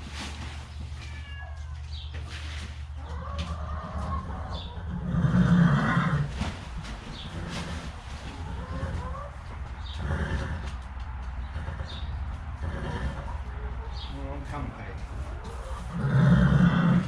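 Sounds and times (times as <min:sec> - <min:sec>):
farm animals calling: 0:00.4 - 0:17.0.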